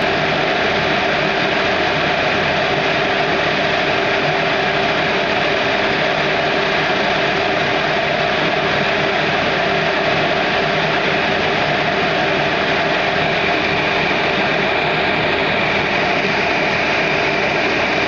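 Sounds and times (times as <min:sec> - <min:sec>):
furnace burner and blower roaring: 0:00.0 - 0:18.0.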